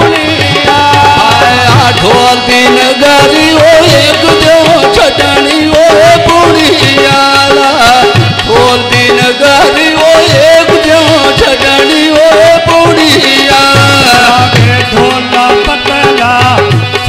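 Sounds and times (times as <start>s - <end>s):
hand drums: 0.0s - 17.0s
harmonium chords: 0.0s - 17.0s
man singing folk song: 0.0s - 17.0s.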